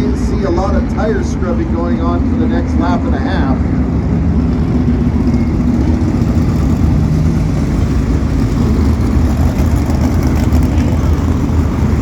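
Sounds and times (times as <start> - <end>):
sprint car engines rumbling: 0.0 - 12.0.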